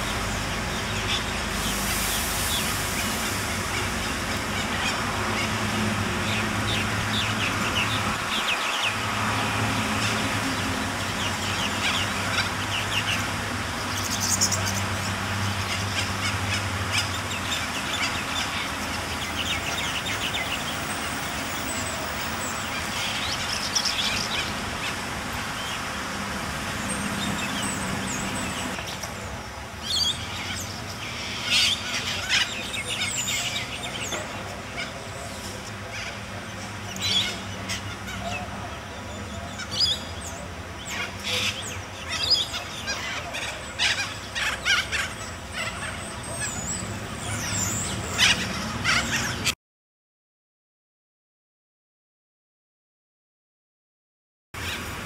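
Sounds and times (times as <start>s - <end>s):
birds calling: 0.0s - 49.6s.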